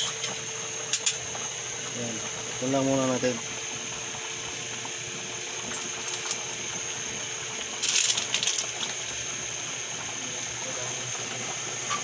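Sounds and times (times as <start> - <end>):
broth simmering in pot: 0.0 - 12.0.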